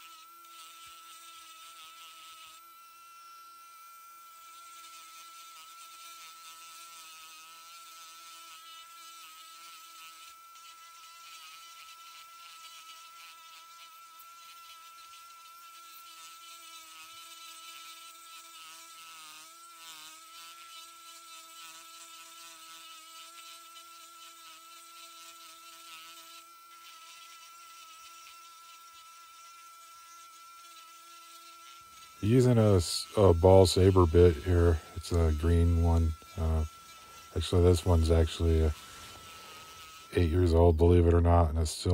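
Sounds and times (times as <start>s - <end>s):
rotary tool grinding wood: 0.0s - 41.9s.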